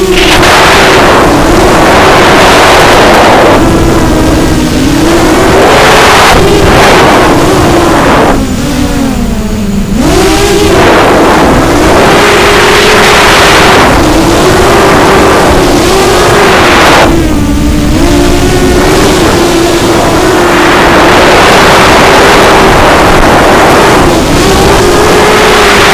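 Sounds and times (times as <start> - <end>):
rush of air: 0.0 - 8.8, 10.7 - 25.9
drone motors whining: 0.0 - 25.9.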